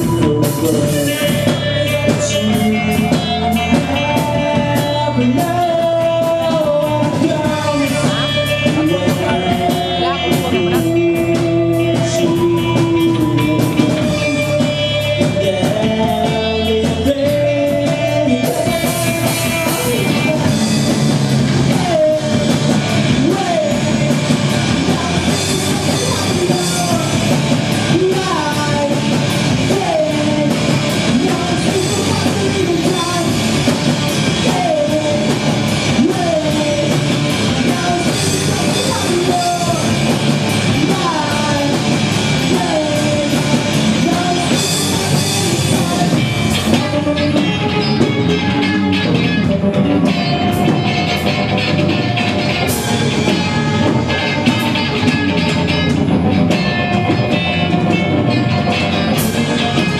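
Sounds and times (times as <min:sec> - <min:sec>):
bass guitar: 0:00.0 - 0:59.9
drum kit with cymbals: 0:00.0 - 0:59.9
electric guitars: 0:00.0 - 0:59.9.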